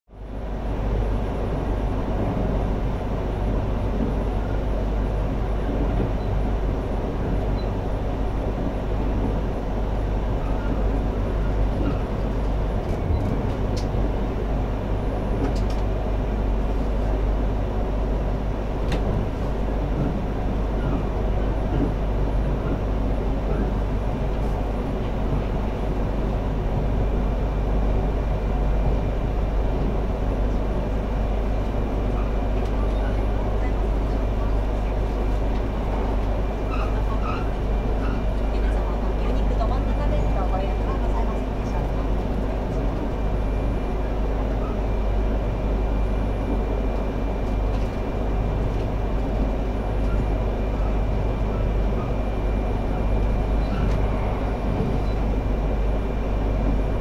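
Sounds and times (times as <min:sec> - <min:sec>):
train cabin low rumble: 0:00.1 - 0:57.0.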